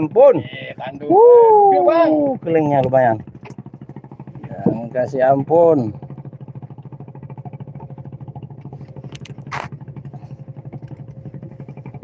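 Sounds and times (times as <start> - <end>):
boat engine thudding: 0.0 - 12.0.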